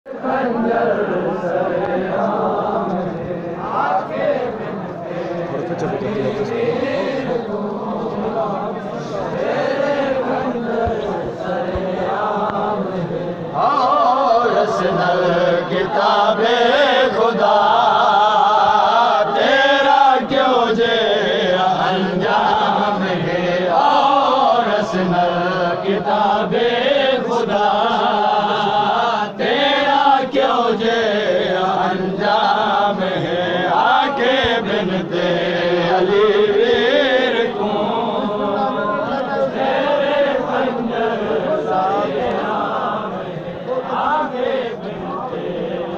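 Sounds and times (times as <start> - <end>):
man chanting into a microphone: 0.2 - 45.9.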